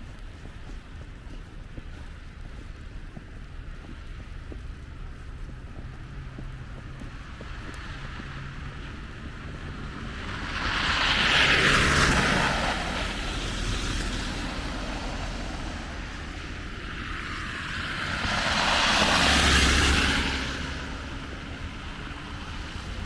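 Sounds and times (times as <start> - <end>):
faint traffic hum: 0.0 - 23.0
vehicle tyres hissing on snow: 0.1 - 23.0.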